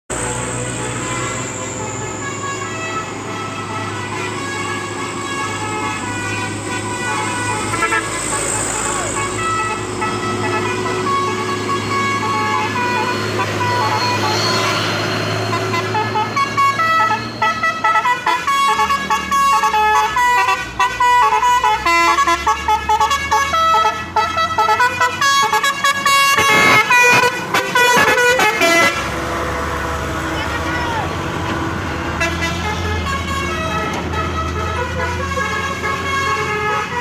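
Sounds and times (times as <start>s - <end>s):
multi-tone vehicle horn melody: 0.1s - 31.1s, 32.2s - 37.0s.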